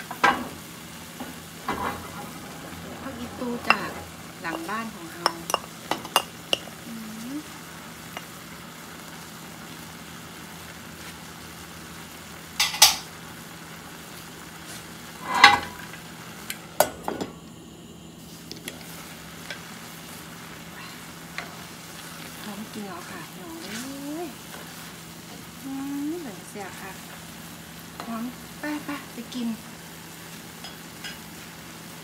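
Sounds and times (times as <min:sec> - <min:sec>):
soft sizzle: 0:00.0 - 0:32.0.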